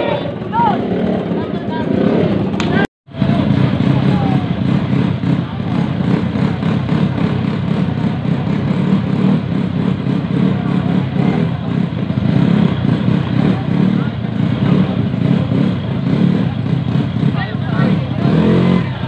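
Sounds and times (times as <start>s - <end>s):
crowd voices: 0.0s - 19.0s
scooter engines revving: 0.0s - 19.0s.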